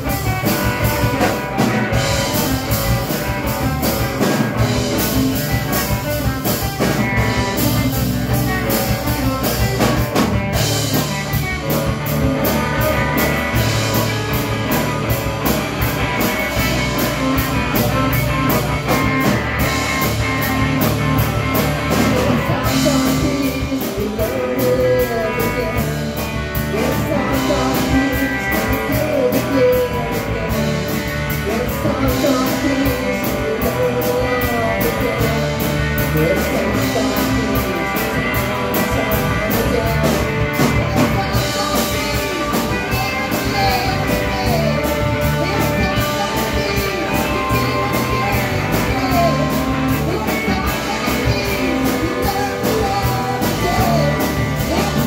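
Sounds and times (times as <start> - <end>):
drum kit with cymbal beat: 0.0 - 55.0
electric bass: 0.0 - 55.0
guitars: 0.0 - 55.0.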